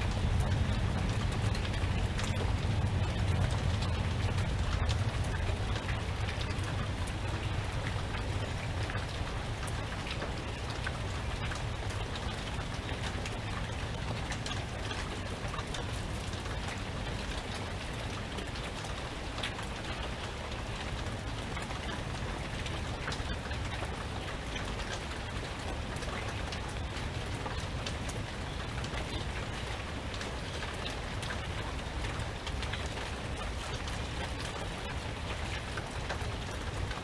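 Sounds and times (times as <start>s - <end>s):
raindrops ticking: 0.0s - 37.0s
steady rain falling: 0.0s - 37.0s.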